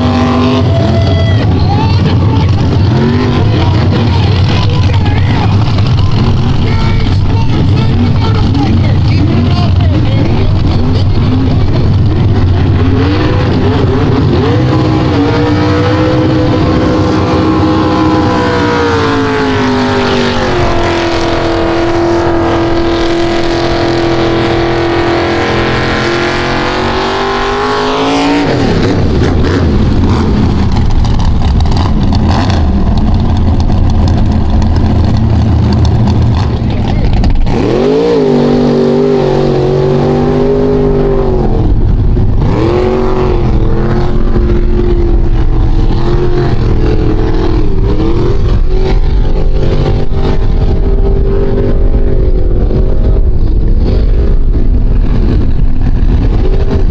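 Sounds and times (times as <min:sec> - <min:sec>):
tyres churning mud: 0:00.0 - 0:51.9
second truck engine revving: 0:00.0 - 0:56.9
truck engine at full throttle: 0:00.0 - 0:56.9.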